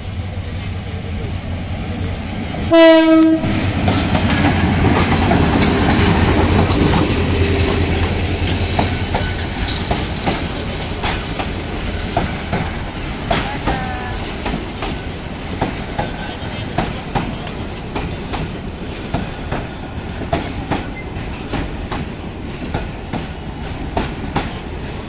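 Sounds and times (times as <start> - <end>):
train wheels clacking over rail joints: 2.8 - 25.0.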